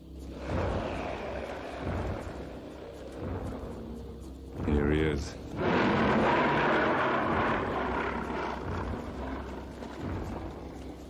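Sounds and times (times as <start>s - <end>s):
dinosaur roar: 0.3s - 3.8s, 5.5s - 10.9s.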